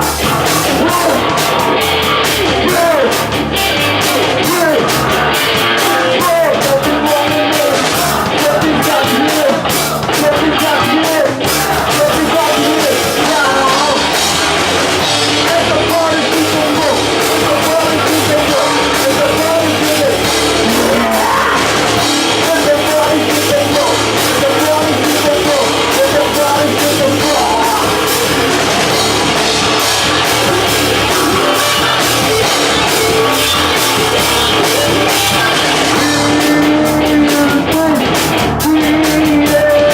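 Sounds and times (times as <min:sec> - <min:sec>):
rock band playing: 0:00.0 - 0:39.9
person singing: 0:04.1 - 0:14.2, 0:15.4 - 0:28.9, 0:29.6 - 0:39.9.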